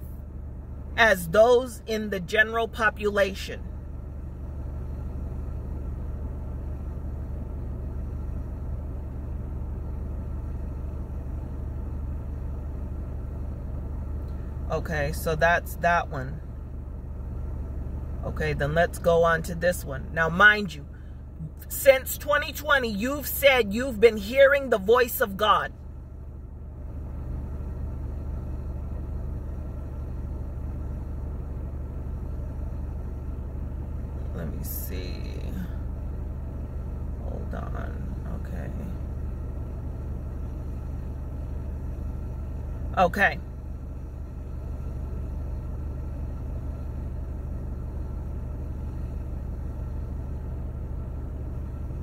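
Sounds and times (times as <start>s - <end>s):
air conditioning running: 0.0s - 52.0s
car engine idling: 0.0s - 52.0s.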